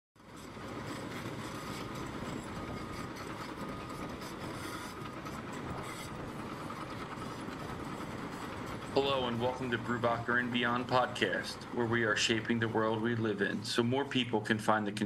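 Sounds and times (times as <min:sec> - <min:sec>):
machinery rumble and clatter: 0:00.2 - 0:15.0.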